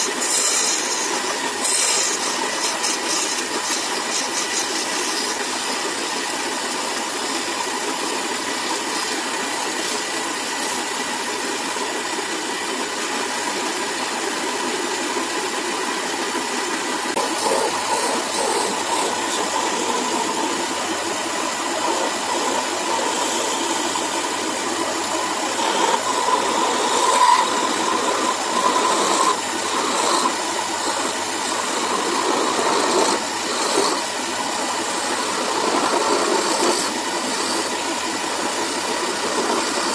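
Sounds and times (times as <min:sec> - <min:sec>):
chisel scraping spinning wood: 0:00.0 - 0:39.9
wood lathe motor hum: 0:00.0 - 0:39.9.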